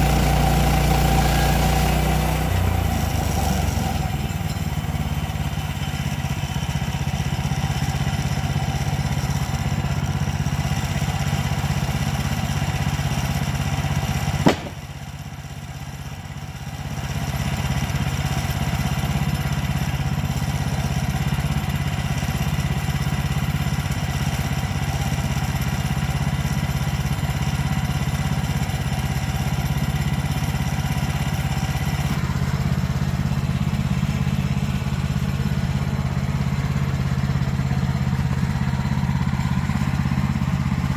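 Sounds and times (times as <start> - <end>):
sawmill gas engine running: 0.0 - 40.9.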